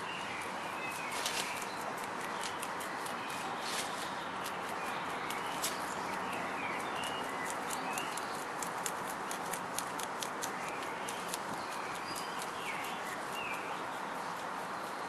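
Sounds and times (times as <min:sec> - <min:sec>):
rabbits munching leaves: 0:00.0 - 0:15.0.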